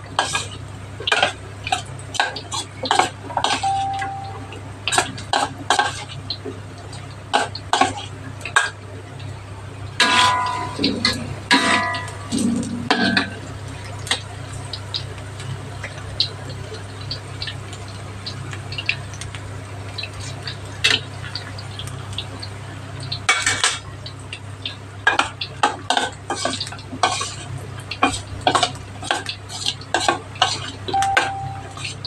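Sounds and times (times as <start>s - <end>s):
food sizzling and crackling in oil: 4.8s - 32.0s.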